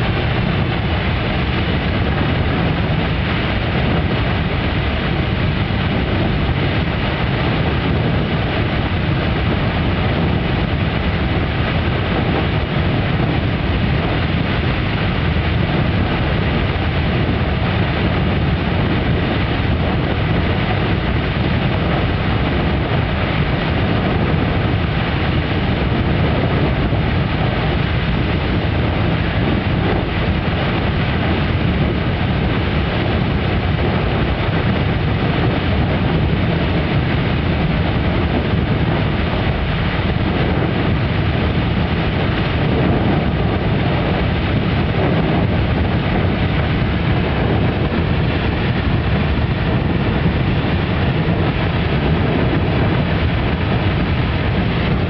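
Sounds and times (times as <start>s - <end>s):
geyser water and steam rushing: 0.0s - 55.0s.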